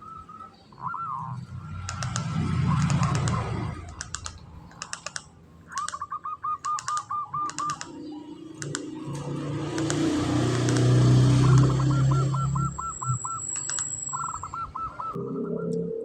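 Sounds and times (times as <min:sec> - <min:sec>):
dove cooing: 0:00.0 - 0:05.0, 0:05.7 - 0:16.0
sharp clicks: 0:01.5 - 0:14.5.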